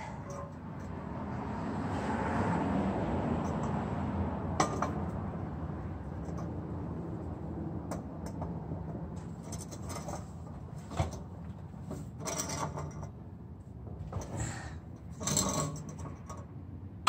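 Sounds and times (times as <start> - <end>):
metal exhaust pipe clinking and rattling: 0.0 - 1.4, 3.4 - 16.6.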